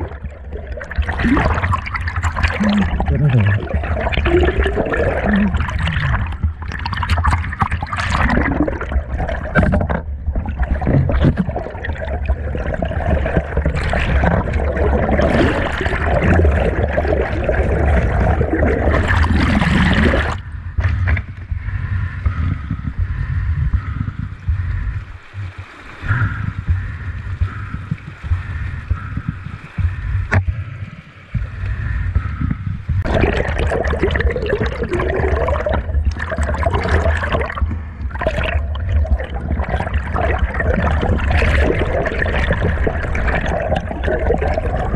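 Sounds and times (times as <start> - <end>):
underwater stream rushing: 0.0 - 44.9.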